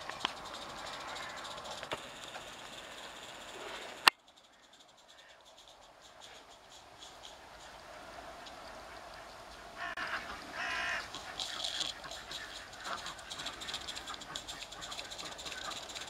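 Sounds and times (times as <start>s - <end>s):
bird harsh calls: 0.0s - 7.5s, 9.2s - 16.0s.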